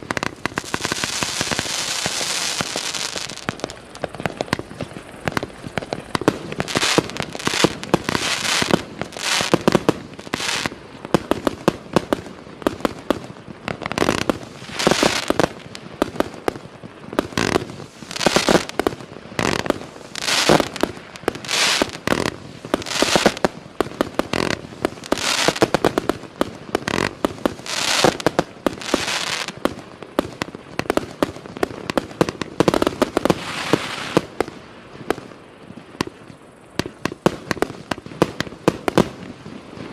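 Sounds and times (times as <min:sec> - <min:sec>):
firework cake firing: 0:00.0 - 0:35.4, 0:36.0 - 0:39.9.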